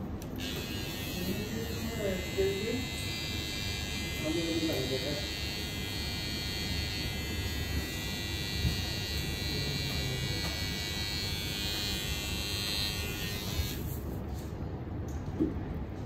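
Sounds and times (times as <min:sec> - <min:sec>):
electric hair clipper buzzing: 0:00.2 - 0:14.2.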